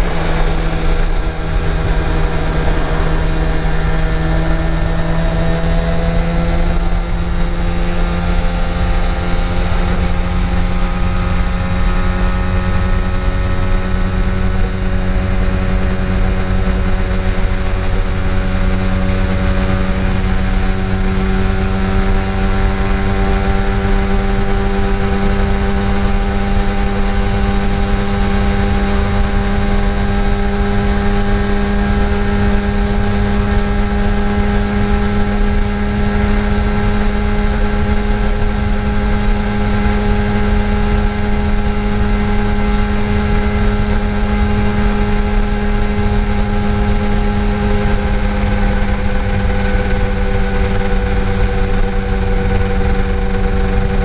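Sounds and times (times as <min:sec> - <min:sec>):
motorcycle engine running steadily: 0:00.0 - 0:54.0
wind rumbling on microphone: 0:00.0 - 0:54.0.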